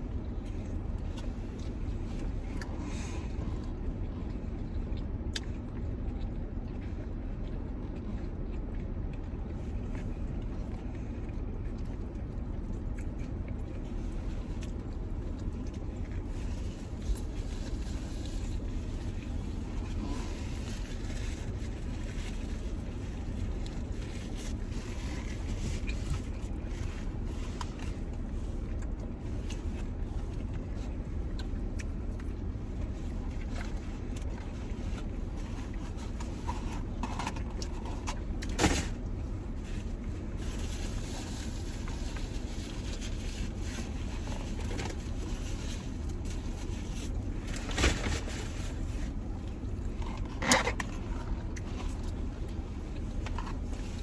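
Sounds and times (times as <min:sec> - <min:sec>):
car cabin rumble: 0:09.6 - 0:54.0.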